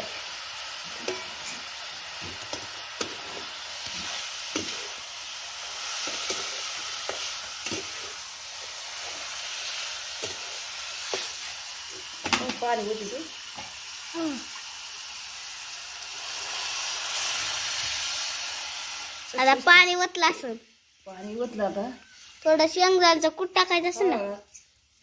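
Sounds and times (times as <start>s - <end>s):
pods sizzling in a steel pan: 0.0s - 25.0s.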